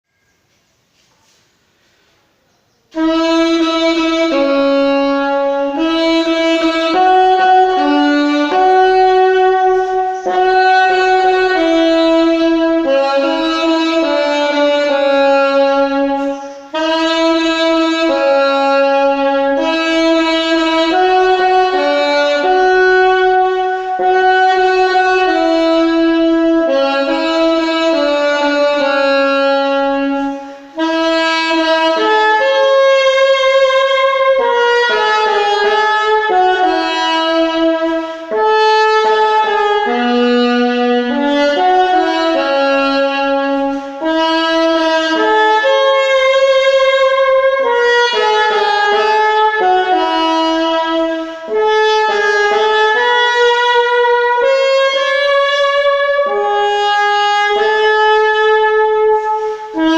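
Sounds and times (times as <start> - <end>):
alto saxophone playing slow melody: 2.9 - 59.9.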